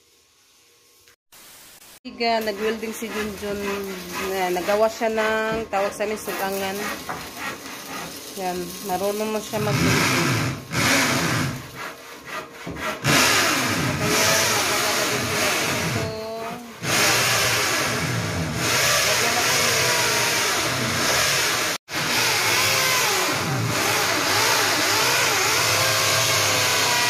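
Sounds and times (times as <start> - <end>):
power tool motor on metal: 2.6 - 27.0.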